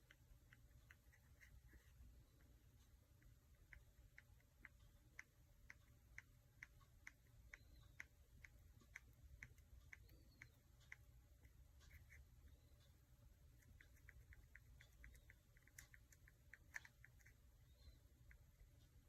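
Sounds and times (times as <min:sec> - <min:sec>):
faint regular ticking: 0:00.0 - 0:19.0.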